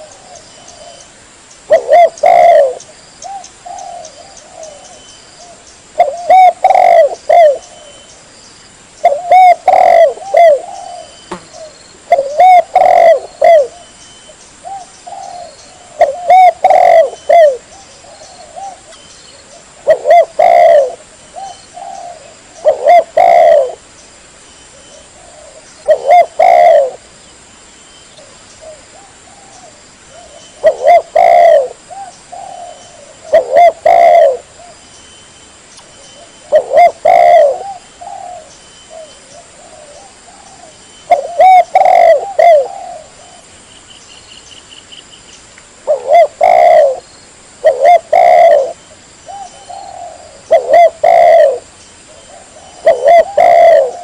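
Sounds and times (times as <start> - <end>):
dove cooing: 0.0 - 1.1, 1.7 - 8.1, 9.0 - 14.0, 14.6 - 23.8, 24.7 - 27.0, 28.2 - 34.8, 36.2 - 43.5, 45.8 - 47.0, 47.6 - 54.0.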